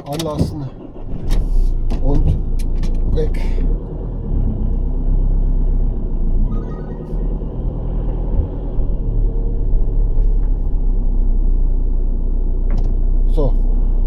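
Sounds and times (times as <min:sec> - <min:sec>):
motorhome engine pulling away: 0:00.0 - 0:14.0.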